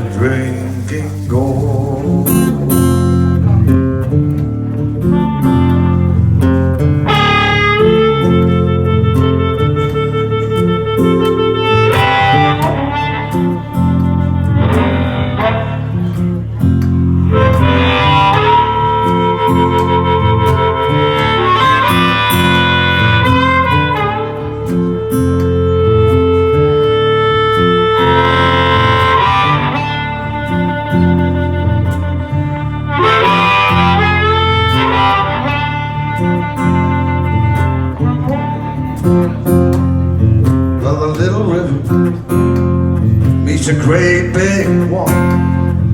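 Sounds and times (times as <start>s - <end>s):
acoustic blues band instrumental: 0.0s - 45.9s.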